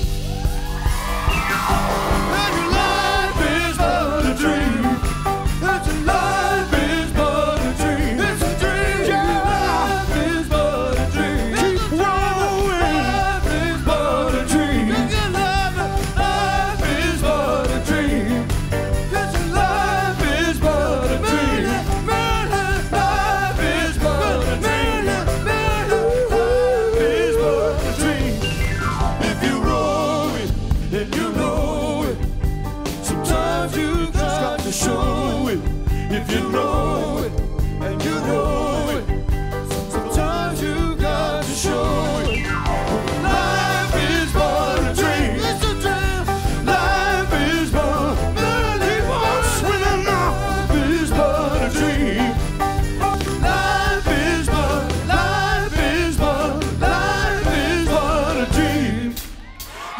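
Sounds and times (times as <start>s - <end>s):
live band playing: 0.0s - 59.9s
men singing: 2.0s - 59.4s.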